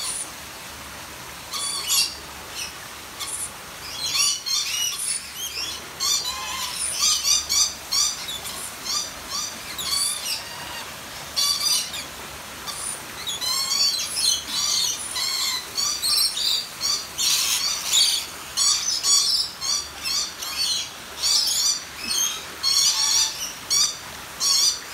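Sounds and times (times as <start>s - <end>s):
flock of lorikeets calling: 0.0s - 0.3s, 1.5s - 24.9s.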